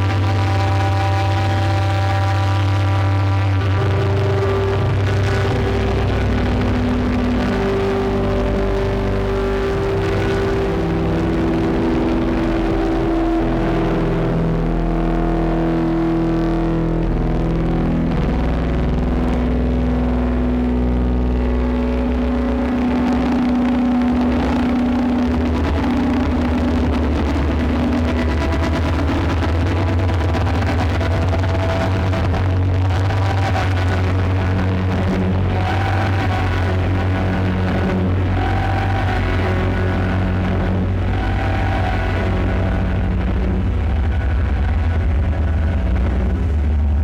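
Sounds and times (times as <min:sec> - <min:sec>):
distorted synthesizer drone: 0:00.0 - 0:47.0
gritty noise haze: 0:00.0 - 0:47.0.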